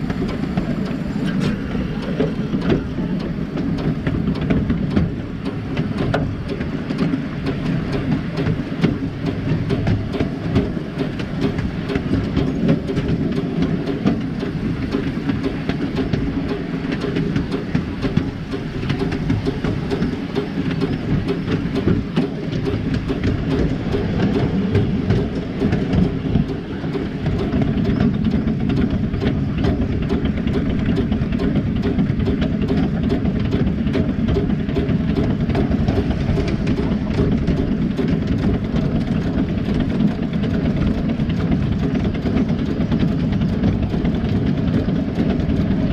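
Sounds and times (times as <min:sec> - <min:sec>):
miniature steam locomotive rumble: 0:00.0 - 0:45.9
wheels clicking on rails: 0:00.0 - 0:45.9.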